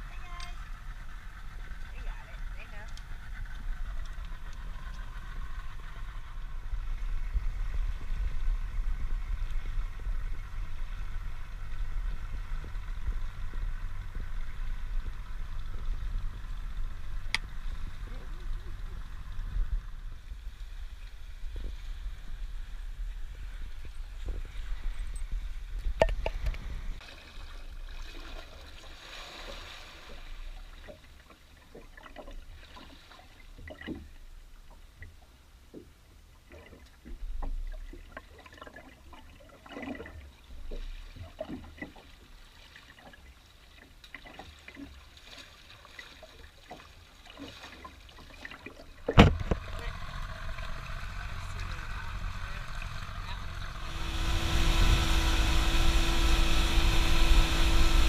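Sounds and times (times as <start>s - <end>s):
water lapping against boat: 0.0s - 54.4s.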